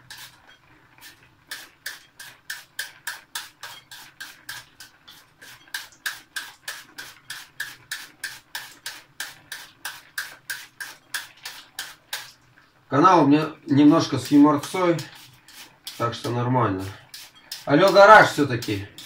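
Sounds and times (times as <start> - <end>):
knife shredding cabbage: 0.0 - 0.4, 1.0 - 12.3, 13.7 - 19.0.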